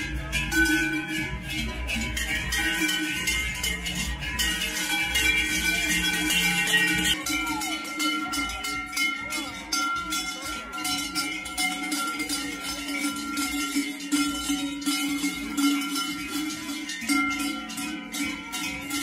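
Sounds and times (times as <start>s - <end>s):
large cowbells clanging: 0.0s - 19.0s
steady ringing: 0.0s - 19.0s.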